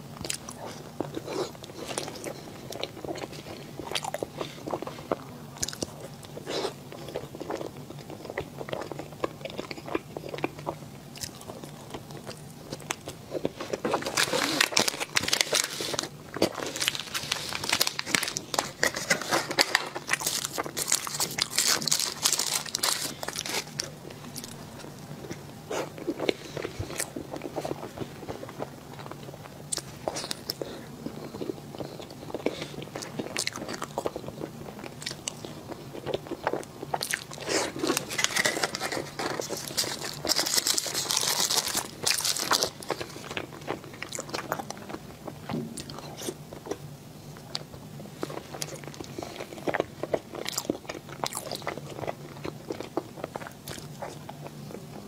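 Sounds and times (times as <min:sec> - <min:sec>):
chewing soft cakes: 0:00.0 - 0:55.0.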